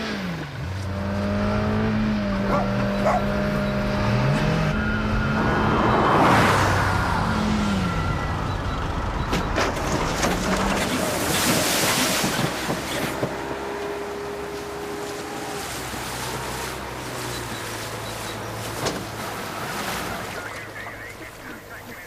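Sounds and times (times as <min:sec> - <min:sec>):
car engine revving: 0:00.0 - 0:21.8.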